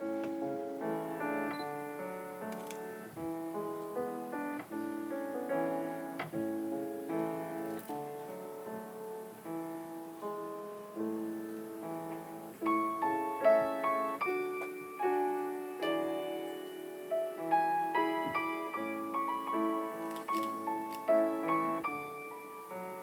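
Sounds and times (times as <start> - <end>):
solo piano playing: 0.0 - 23.0.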